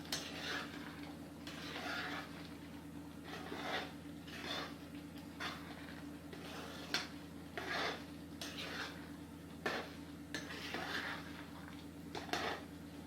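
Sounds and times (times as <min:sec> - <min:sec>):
spoon scraping pan: 0:00.0 - 0:02.6, 0:03.2 - 0:12.8.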